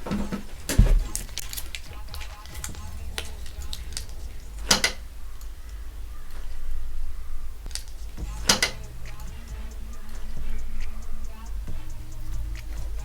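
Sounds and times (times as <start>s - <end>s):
low steady hum: 0.0s - 13.0s
sharp clicks of handling: 0.1s - 6.6s, 7.7s - 11.6s.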